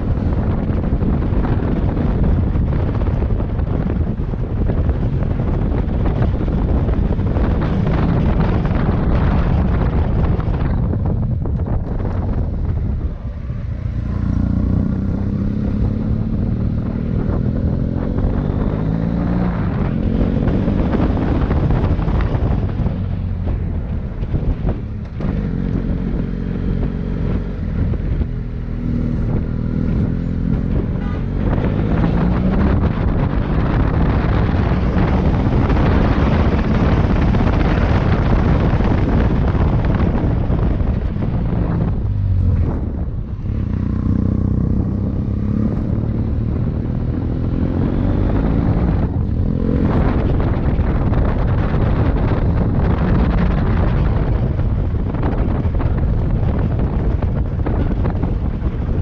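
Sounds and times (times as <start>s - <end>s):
motorcycle engine revving: 0.0s - 59.0s
wind buffeting microphone: 0.0s - 59.0s.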